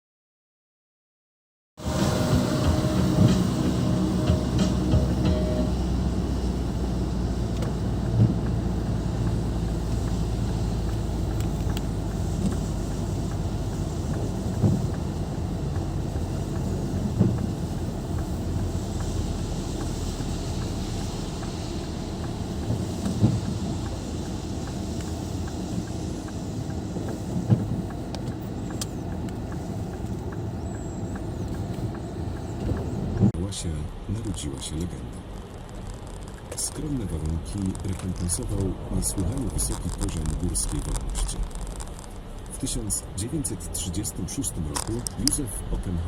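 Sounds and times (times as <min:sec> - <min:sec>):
car engine and road noise: 0:01.8 - 0:46.0.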